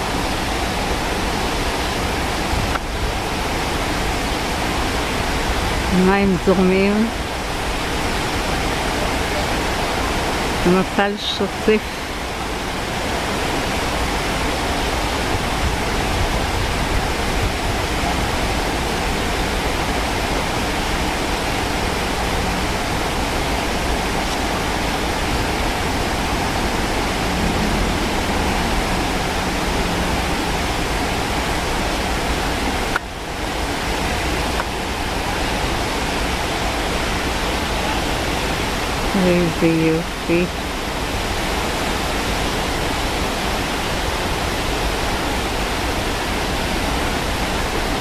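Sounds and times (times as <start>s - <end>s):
stream rushing over boulders: 0.0s - 48.0s.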